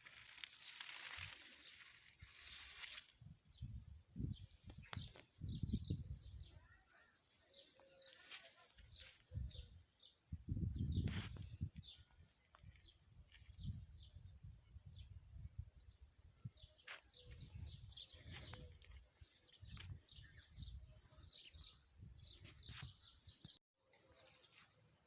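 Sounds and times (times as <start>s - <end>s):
small birds chirping: 0.0s - 24.8s.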